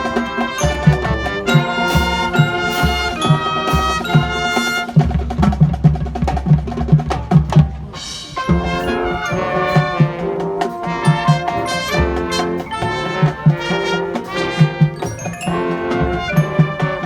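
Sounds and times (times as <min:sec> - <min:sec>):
brass chords: 0:00.0 - 0:05.4, 0:07.9 - 0:17.0
steady drum beat: 0:00.0 - 0:17.0.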